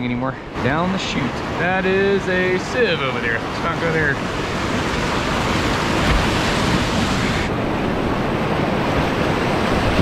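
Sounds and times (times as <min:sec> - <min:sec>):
river rapid rushing water: 0:00.1 - 0:10.0.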